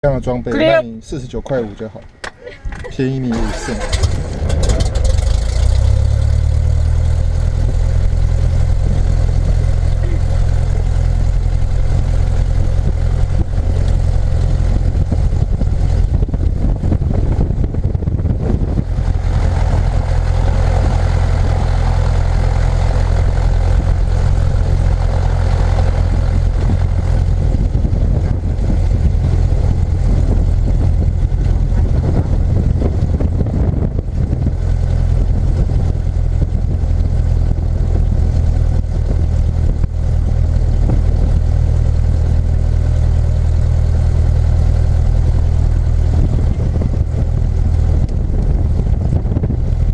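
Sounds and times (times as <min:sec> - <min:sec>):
aircraft piston engine idling: 0:02.4 - 0:49.9.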